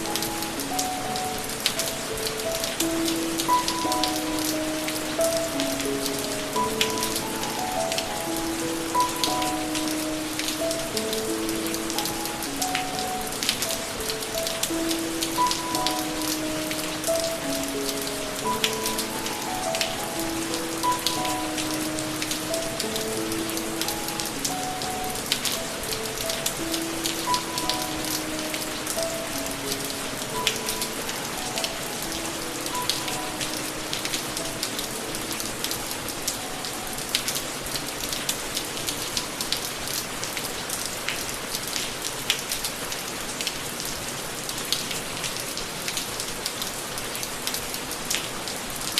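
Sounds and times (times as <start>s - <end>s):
soft melody of held notes: 0.0s - 40.8s
rain drops striking a surface: 0.0s - 48.9s.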